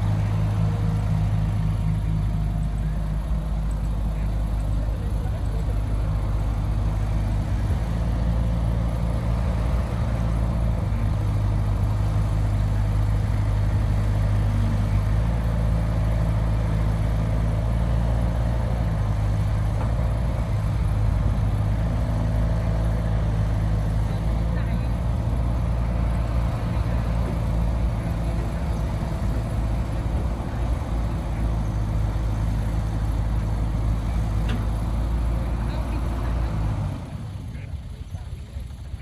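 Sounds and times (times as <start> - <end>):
diesel engine droning: 0.0 - 39.0.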